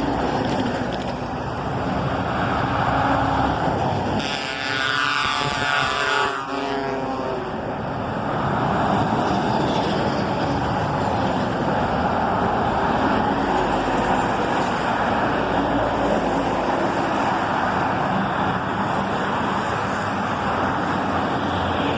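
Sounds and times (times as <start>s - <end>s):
trucks driving past: 0.0s - 21.9s.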